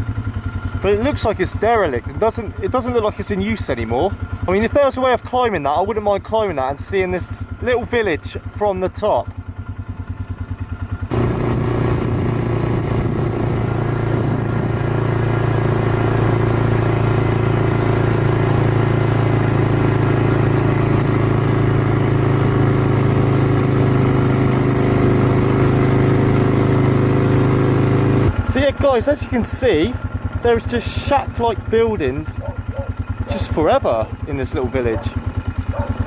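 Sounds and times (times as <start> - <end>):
quad bike engine running: 0.0 - 36.0.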